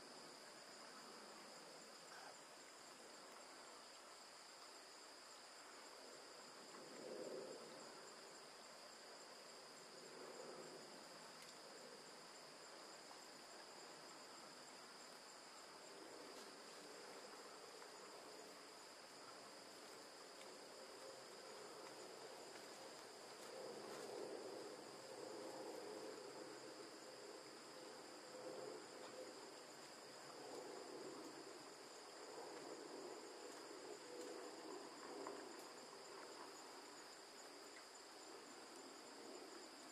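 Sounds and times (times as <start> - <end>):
high drone of insects: 0.0 - 39.9.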